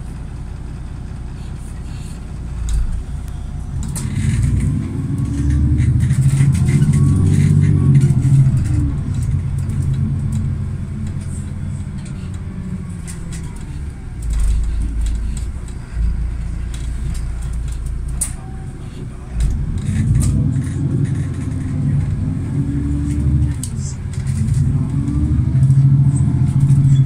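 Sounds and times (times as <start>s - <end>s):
bus engine and road noise: 0.0s - 27.0s
interior rattles and clicks: 0.0s - 27.0s.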